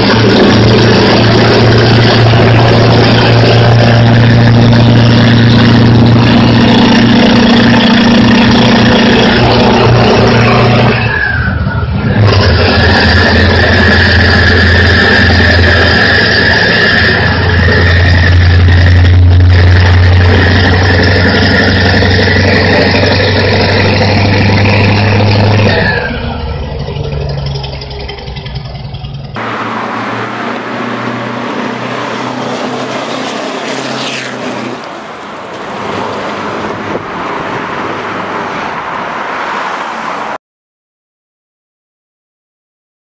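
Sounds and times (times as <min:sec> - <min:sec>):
truck engine running: 0:00.0 - 0:40.3
road noise: 0:00.0 - 0:40.4.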